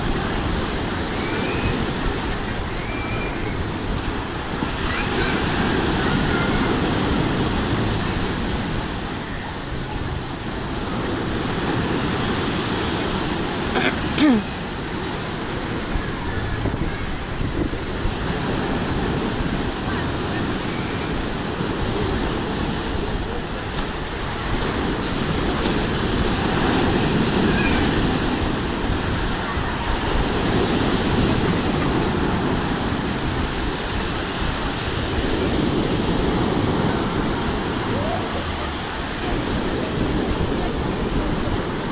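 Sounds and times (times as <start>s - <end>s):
waves breaking on pebble beach: 0.0s - 41.9s.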